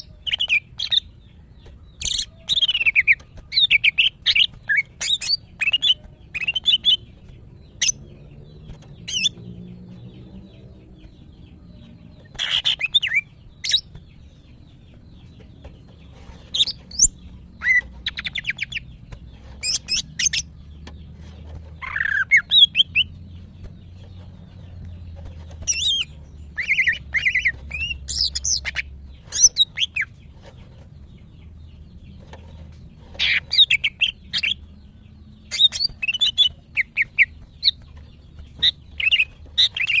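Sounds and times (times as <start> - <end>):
bird chirping and twittering: 0.0 - 40.0.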